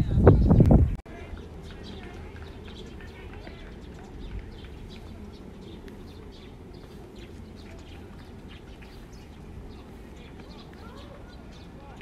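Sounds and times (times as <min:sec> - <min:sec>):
steady low rumble: 0:00.0 - 0:12.0
small birds chirping: 0:00.4 - 0:12.0.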